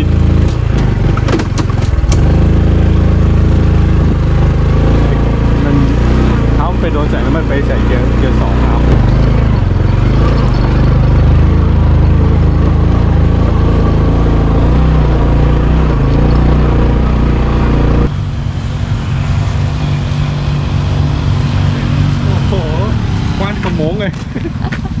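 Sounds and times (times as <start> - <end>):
vehicle engine under load: 0.0 - 25.0.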